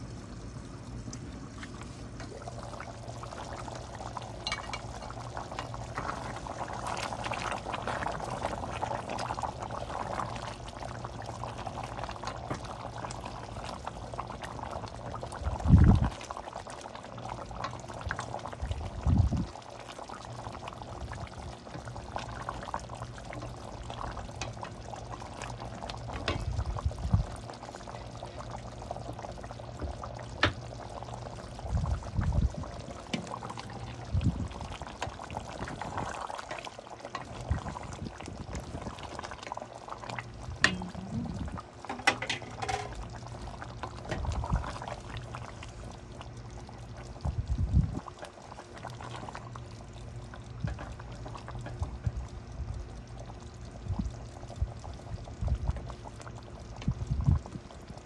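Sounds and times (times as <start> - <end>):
liquid bubbling in a pan: 0.0 - 58.0.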